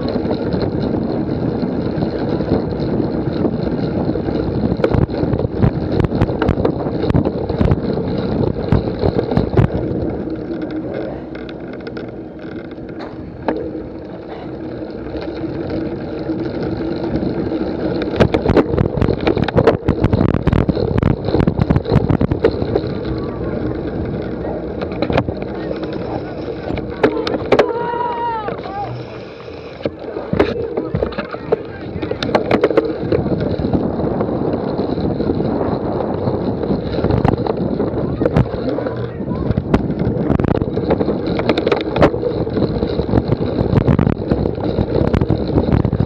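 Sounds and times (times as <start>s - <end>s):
bike knocks and clicks: 0.0s - 46.0s
bike rattling over rough ground: 0.0s - 46.0s
wind on the microphone: 0.0s - 46.0s.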